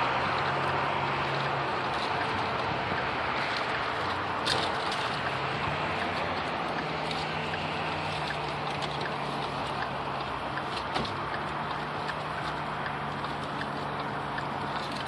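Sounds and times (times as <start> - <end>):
road noise hiss: 0.0 - 15.0
vehicle engine humming: 0.0 - 15.0.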